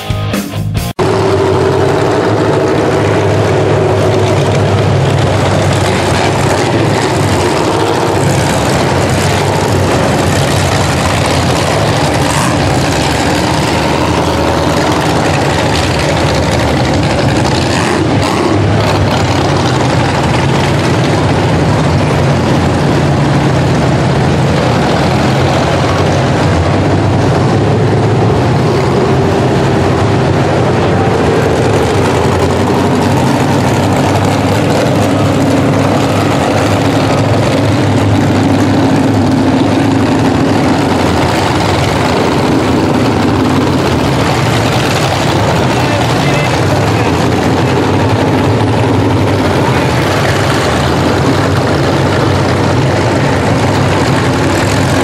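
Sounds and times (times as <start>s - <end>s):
car engines idling and revving: 0.0s - 55.0s.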